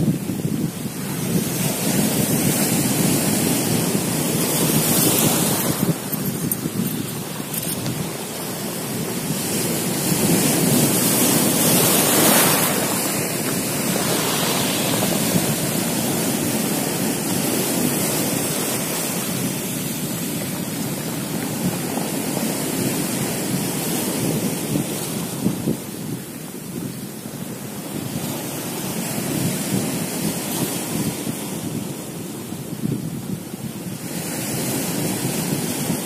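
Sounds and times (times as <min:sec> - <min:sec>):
surf washing over rocky shore: 0:00.0 - 0:36.0
wind buffeting microphone: 0:00.0 - 0:36.0.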